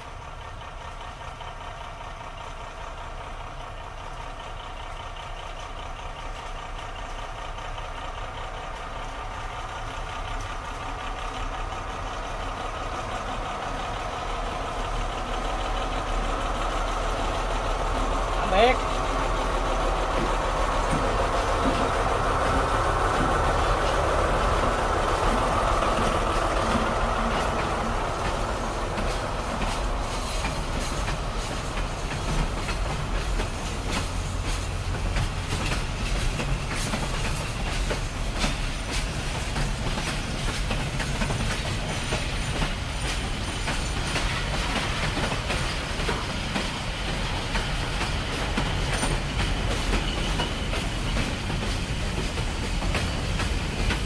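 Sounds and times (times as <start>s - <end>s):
train rumbling: 0.0s - 54.0s
wheels clicking over rail joints: 4.2s - 54.0s.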